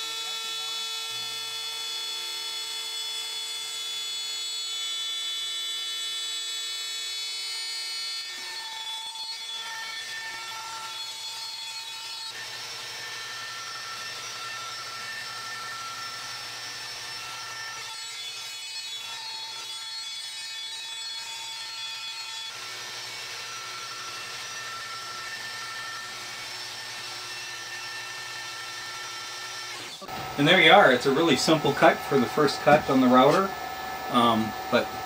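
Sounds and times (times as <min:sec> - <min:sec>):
router whining: 0:00.0 - 0:19.7, 0:20.4 - 0:35.0.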